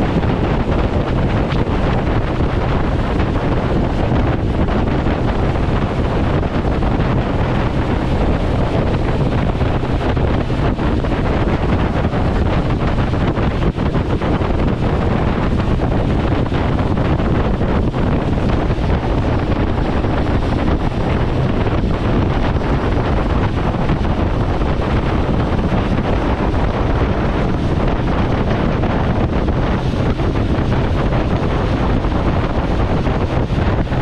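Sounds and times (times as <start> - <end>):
boat engine: 0.0 - 34.0
water noise: 0.0 - 34.0
wind rushing over microphone: 0.0 - 34.0.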